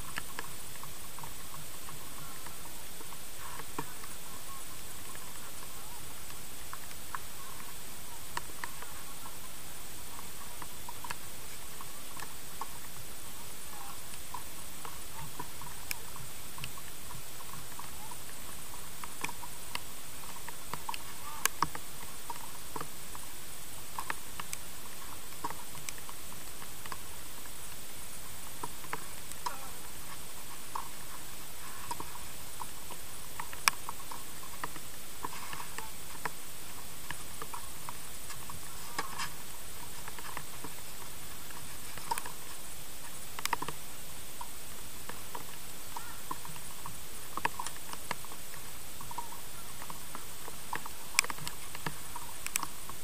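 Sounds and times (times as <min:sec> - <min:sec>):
camera hiss: 0:00.0 - 0:53.0.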